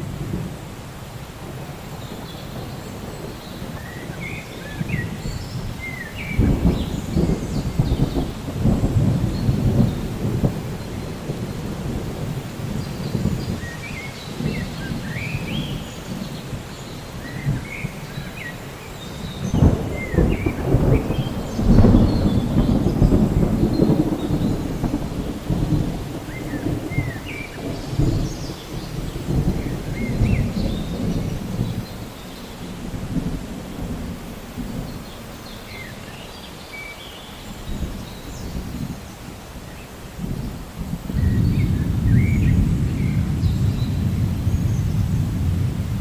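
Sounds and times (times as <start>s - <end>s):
low rolling thunder: 0.0s - 36.2s, 37.4s - 46.0s
steady rain: 0.0s - 46.0s.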